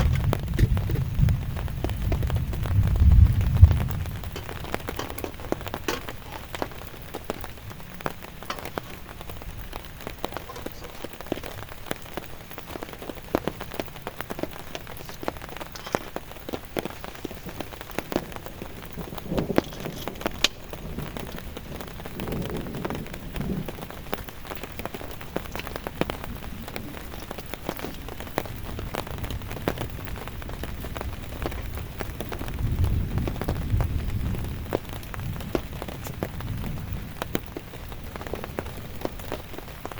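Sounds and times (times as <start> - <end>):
low rumbles: 0.0 - 39.6
heavy rain patter: 0.0 - 39.9.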